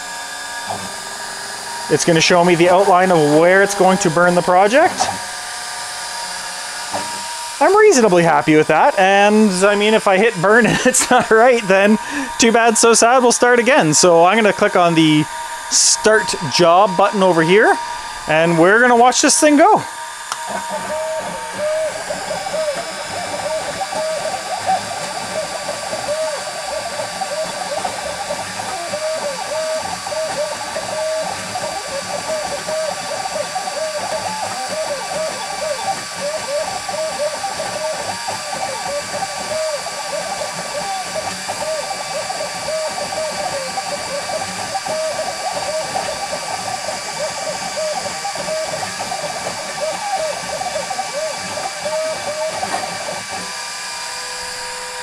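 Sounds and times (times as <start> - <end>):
faint steady high whine: 0.0 - 55.0
stepper motors whining: 0.0 - 55.0.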